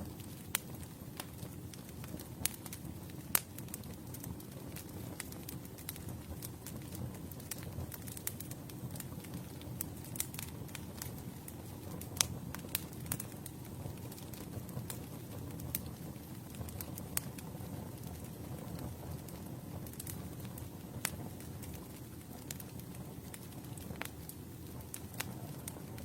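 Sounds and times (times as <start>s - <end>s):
low rumble of flames: 0.0s - 26.0s
wood crackling and popping: 0.0s - 26.0s.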